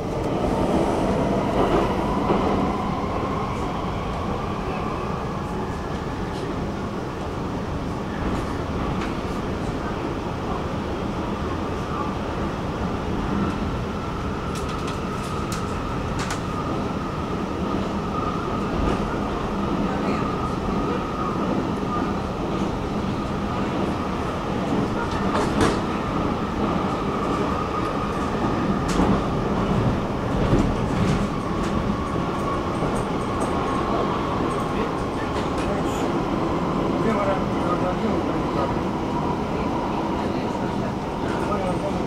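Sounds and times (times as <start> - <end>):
metro train wheels rumbling: 0.0 - 42.0.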